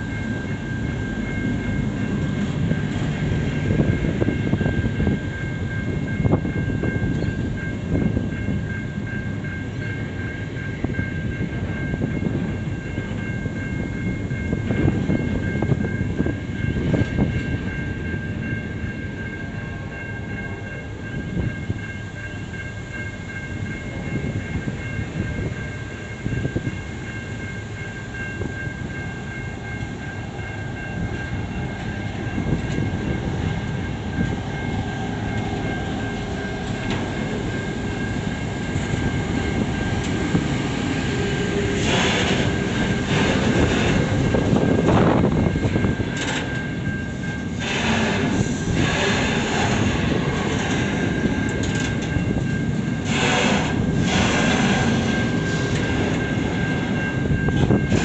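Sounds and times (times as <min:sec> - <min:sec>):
train clattering and clanking: 0:00.0 - 0:58.0
train wheels rumbling on rail: 0:00.0 - 0:58.0.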